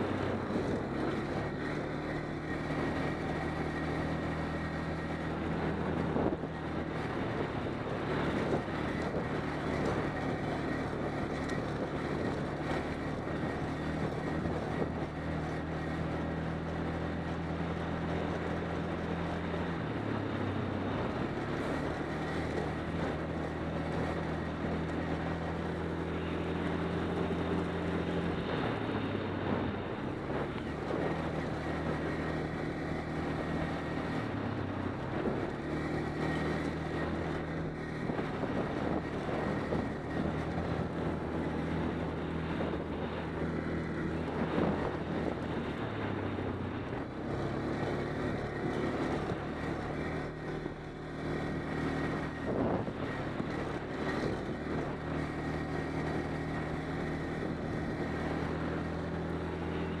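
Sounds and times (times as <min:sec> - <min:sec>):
atv engine running: 0:00.0 - 1:00.0.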